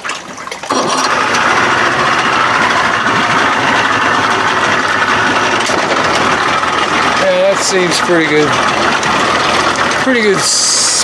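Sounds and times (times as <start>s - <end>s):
outboard engine idling: 0.6s - 11.0s.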